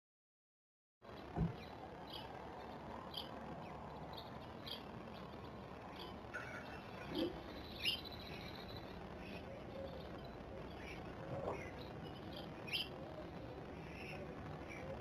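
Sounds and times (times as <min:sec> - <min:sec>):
blue tits chirping: 0:01.2 - 0:13.2.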